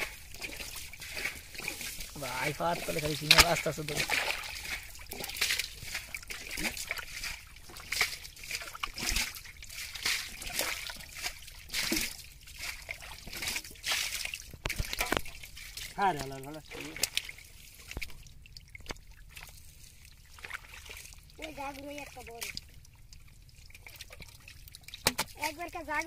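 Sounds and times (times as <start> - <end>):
muddy water splashing: 0.0 - 26.0.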